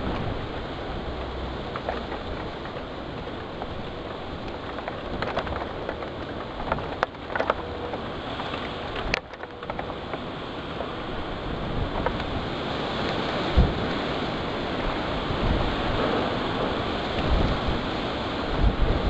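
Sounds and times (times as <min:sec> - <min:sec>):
heavy rain: 0:00.0 - 0:19.0
wind: 0:00.0 - 0:19.0.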